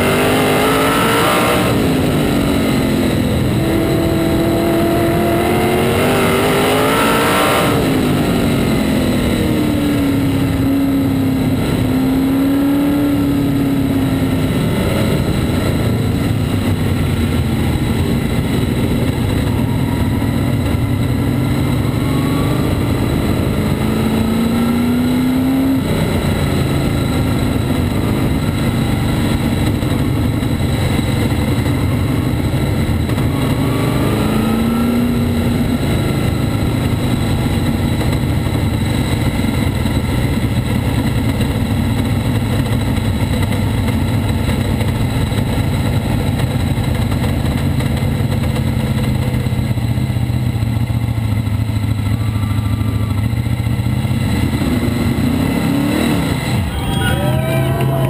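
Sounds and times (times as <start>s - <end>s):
race car engine: 0.0s - 48.7s, 50.4s - 58.0s.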